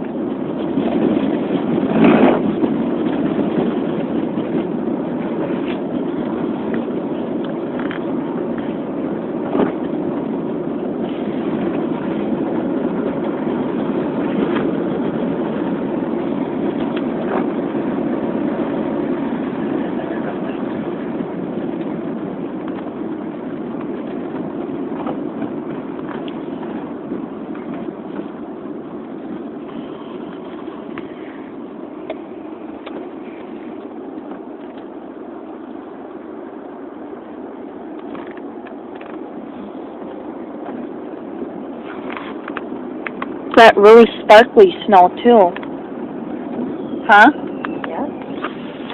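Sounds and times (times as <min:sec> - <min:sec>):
car road and engine noise: 0:00.0 - 0:48.9.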